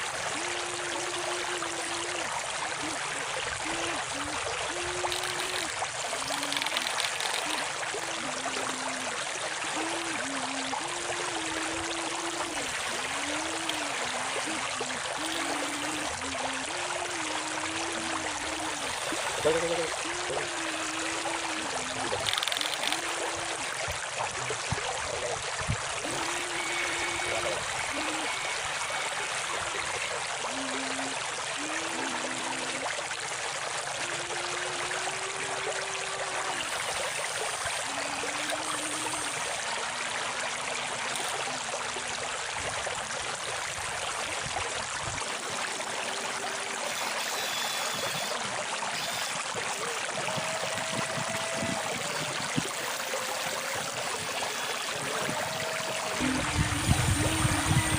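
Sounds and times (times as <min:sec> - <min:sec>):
flowing river water: 0:00.0 - 0:57.9.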